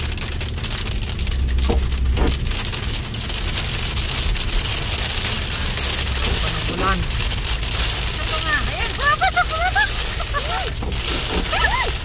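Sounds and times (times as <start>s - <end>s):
car interior rumble: 0.0s - 12.0s
heavy rain on car windscreen: 0.0s - 12.0s.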